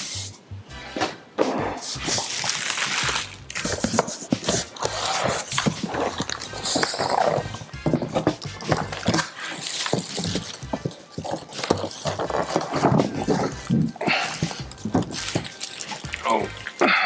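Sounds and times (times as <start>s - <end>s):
cardboard scraping and rustling: 1.5s - 16.4s
plastic wrap crinkling: 1.8s - 17.0s.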